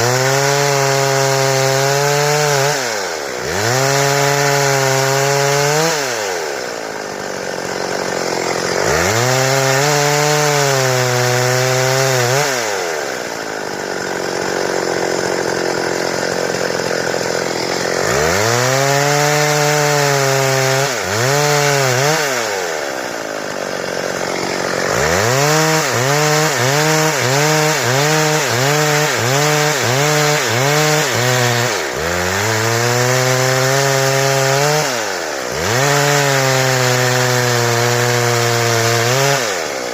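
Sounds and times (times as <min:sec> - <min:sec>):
chainsaw cutting boards: 0:00.0 - 0:39.9.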